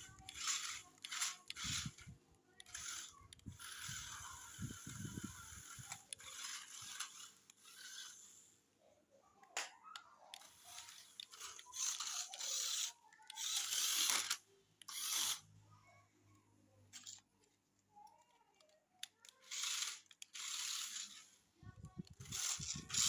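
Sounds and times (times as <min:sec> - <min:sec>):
toy car motor whirring: 0:00.0 - 0:08.5, 0:10.2 - 0:15.5, 0:16.9 - 0:17.3, 0:18.0 - 0:23.0.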